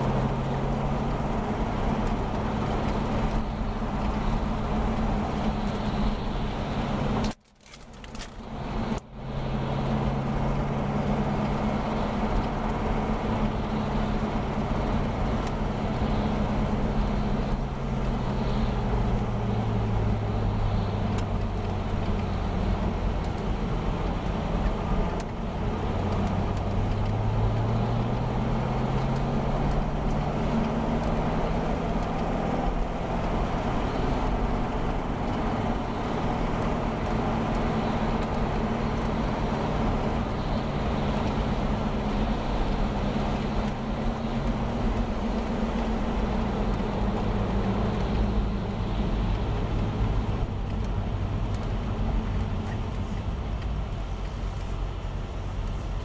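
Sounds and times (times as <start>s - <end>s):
car engine: 0.0s - 56.0s
road noise on wet road: 0.0s - 56.0s.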